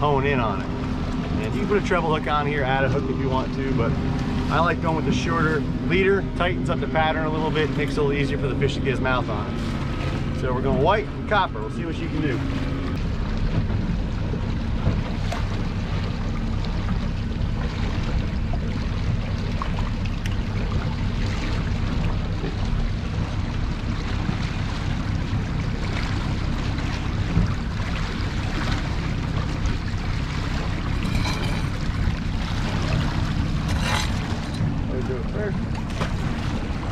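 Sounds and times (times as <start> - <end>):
boat engine droning: 0.0 - 36.9
water rushing along hull: 0.0 - 36.9.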